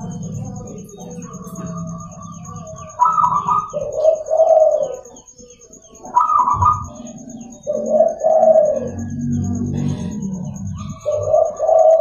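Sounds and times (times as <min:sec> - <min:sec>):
dove cooing: 0:00.0 - 0:12.0
faint small bird chirps: 0:00.0 - 0:12.0.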